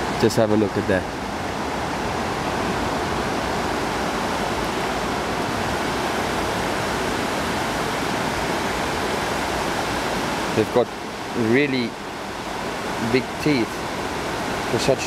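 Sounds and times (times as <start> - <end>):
river rushing over dam wall: 0.0 - 15.0.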